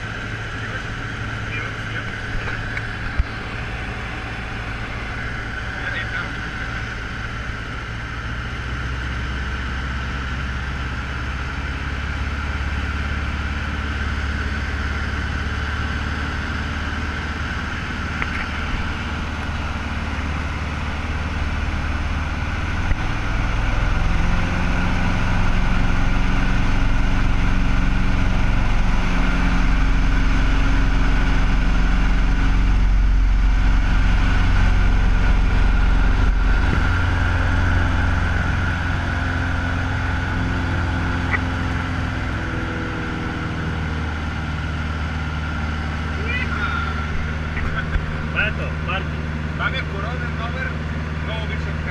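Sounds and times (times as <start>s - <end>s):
light aircraft engine and propeller: 0.0s - 51.9s.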